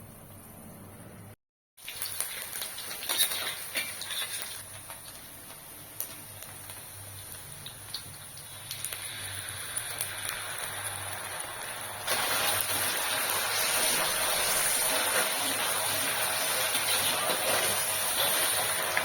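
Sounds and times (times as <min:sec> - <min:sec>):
cooking hiss on stove: 0:01.8 - 0:19.0.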